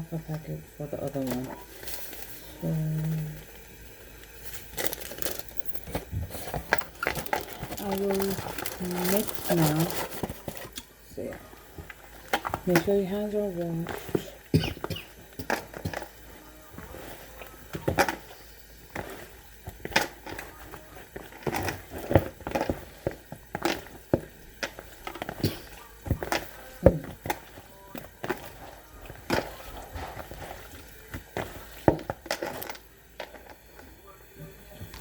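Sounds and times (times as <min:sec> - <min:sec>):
hands mixing raw chicken: 0:04.6 - 0:34.0.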